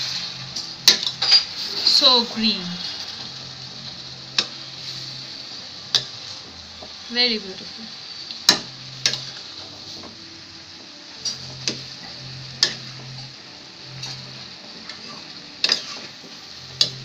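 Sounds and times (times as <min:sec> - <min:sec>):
greens sizzling in oil: 0:00.0 - 0:17.0.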